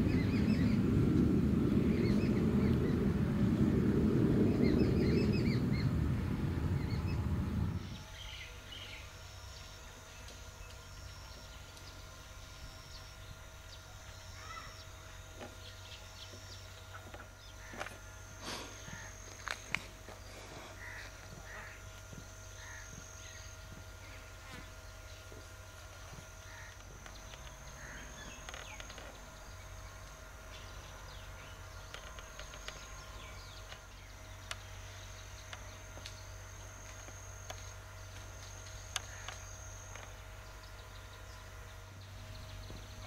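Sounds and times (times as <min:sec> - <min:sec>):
insect trill: 0:00.0 - 0:43.0
low steady hum: 0:00.0 - 0:43.0.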